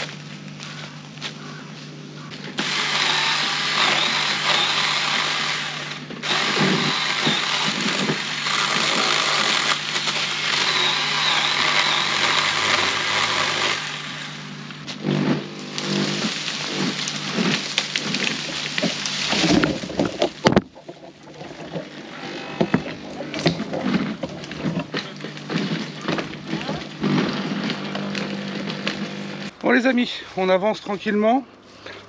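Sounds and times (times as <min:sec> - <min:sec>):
chainsaw cutting wood: 0:02.4 - 0:29.5.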